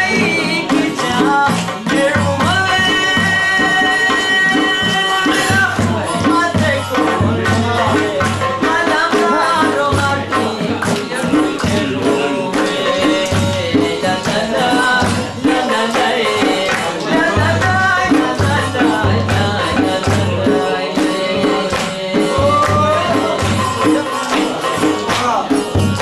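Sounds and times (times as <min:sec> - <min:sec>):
hand drum beat: 0:00.0 - 0:26.0
man singing: 0:00.0 - 0:26.0.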